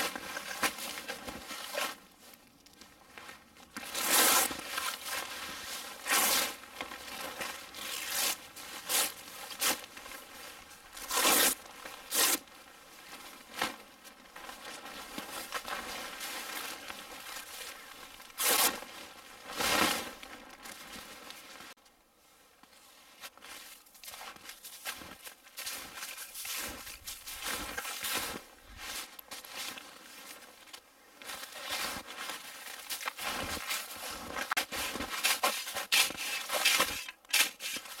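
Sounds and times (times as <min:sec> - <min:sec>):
tarp crinkling and rustling: 0:00.0 - 0:21.8, 0:22.9 - 0:38.0.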